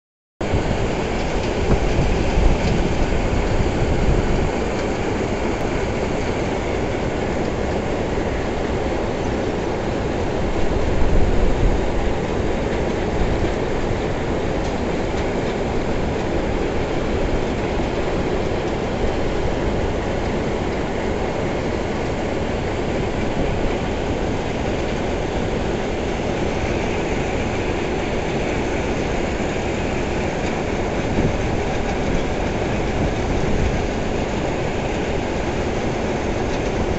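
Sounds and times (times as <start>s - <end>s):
machine and conveyor rumbling: 0.4s - 36.9s.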